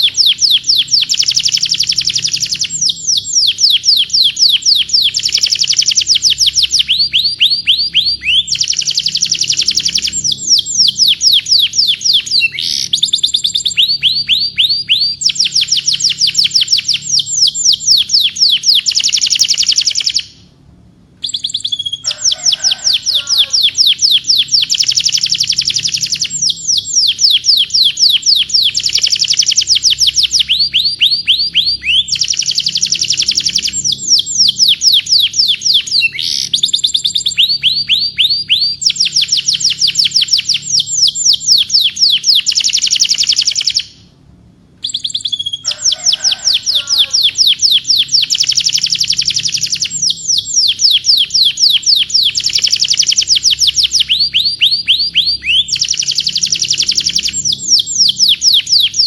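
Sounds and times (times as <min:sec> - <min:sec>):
canary singing trills: 0:00.0 - 0:20.5, 0:21.2 - 0:44.1, 0:44.8 - 0:59.0.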